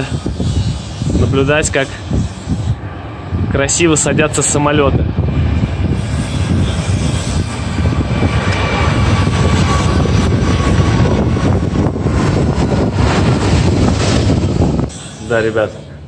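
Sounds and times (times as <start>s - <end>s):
jet engine rumble overhead: 0.0s - 16.0s.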